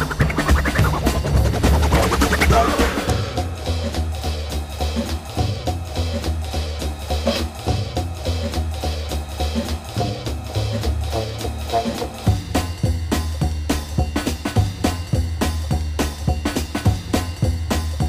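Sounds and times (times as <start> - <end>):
bass line: 0.0 - 18.0
drum-kit beat: 0.0 - 18.0.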